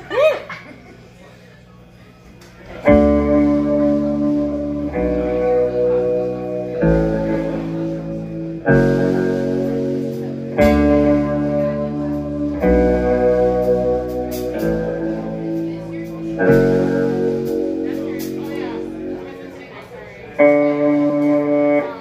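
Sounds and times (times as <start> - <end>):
electric guitar chords ringing: 2.7 - 22.0.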